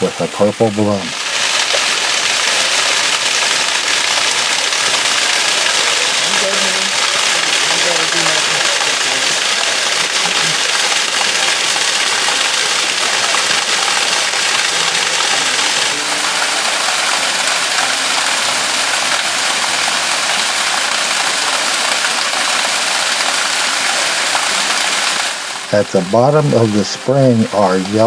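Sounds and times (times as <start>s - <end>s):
spring water rushing: 0.0s - 28.0s.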